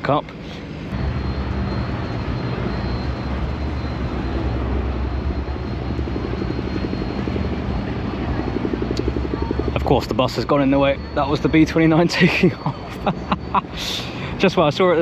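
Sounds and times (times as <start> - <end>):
propeller plane engines droning: 0.0 - 15.0
propeller throb: 0.6 - 15.0.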